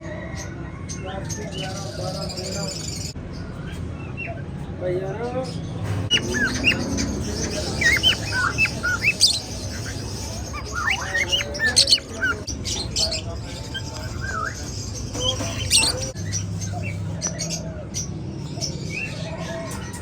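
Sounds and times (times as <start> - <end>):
birds chirping and screeching: 0.0 - 20.0.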